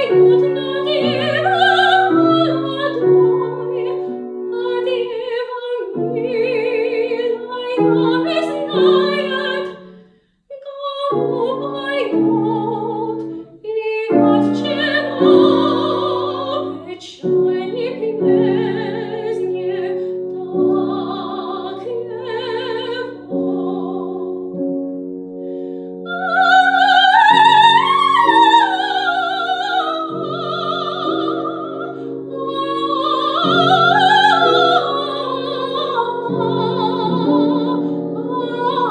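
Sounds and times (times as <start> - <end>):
piano accompaniment: 0.0 - 10.0, 10.8 - 38.9
soprano singing: 0.0 - 38.9.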